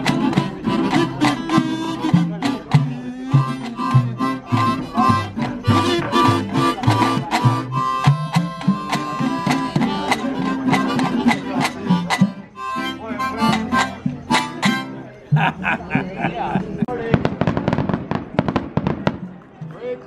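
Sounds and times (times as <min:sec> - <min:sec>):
harmonica holding notes: 0:00.0 - 0:16.8
acoustic guitar picking: 0:00.0 - 0:17.0.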